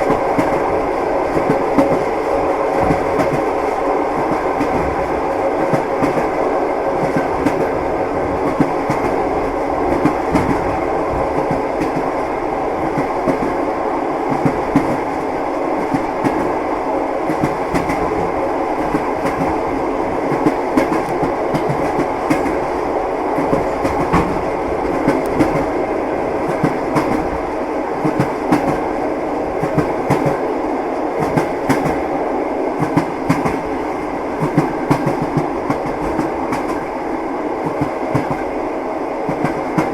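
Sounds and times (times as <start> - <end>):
train wheels clattering on rails: 0.0 - 13.6, 14.2 - 16.6, 17.2 - 30.5, 31.1 - 32.1, 32.8 - 37.0, 37.6 - 38.5, 39.2 - 39.9.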